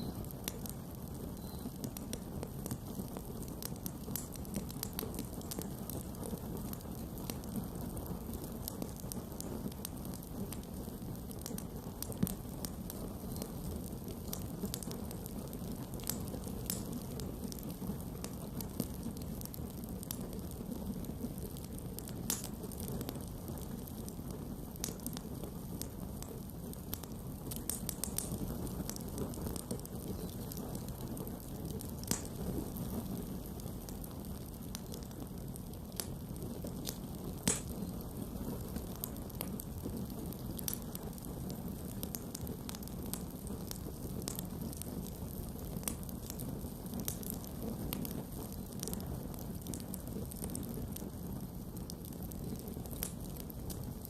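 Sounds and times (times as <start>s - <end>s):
wood crackling and popping: 0.0s - 54.0s
campfire flames rushing: 0.2s - 54.0s.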